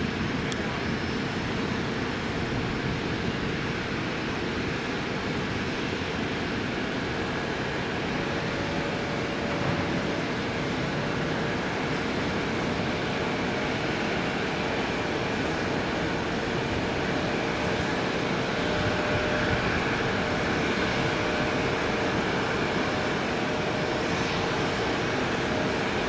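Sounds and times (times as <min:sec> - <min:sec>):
helicopter rotor rumble: 0:00.0 - 0:26.0.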